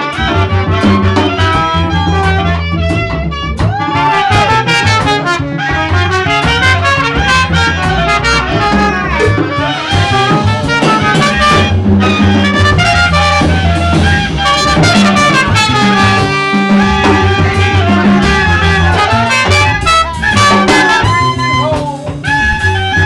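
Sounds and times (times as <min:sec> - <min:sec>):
bass line: 0:00.0 - 0:23.0
clarinet: 0:00.0 - 0:23.0
drums: 0:00.0 - 0:23.0
trumpet: 0:00.0 - 0:23.0.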